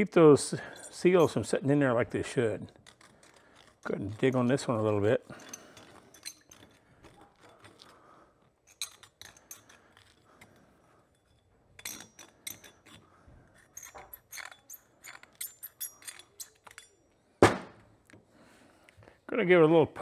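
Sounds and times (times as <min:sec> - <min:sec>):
steel pick scraping and clicking: 0:00.6 - 0:17.2.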